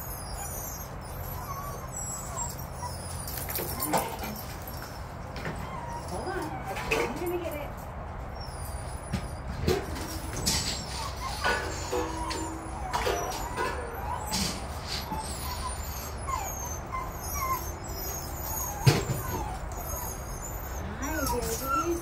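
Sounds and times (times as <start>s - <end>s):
puppies whining and yipping: 0.0s - 22.0s.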